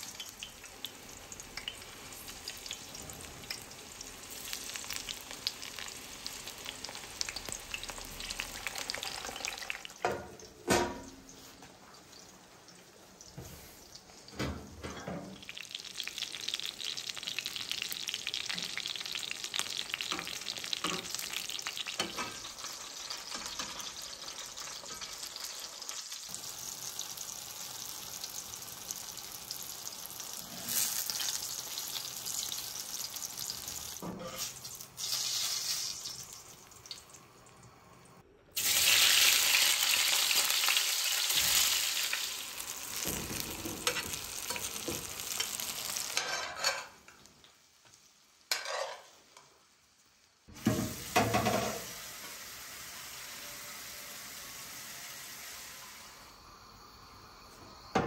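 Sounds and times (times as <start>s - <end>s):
food sizzling in hot oil: 0.0s - 37.8s, 38.6s - 58.0s.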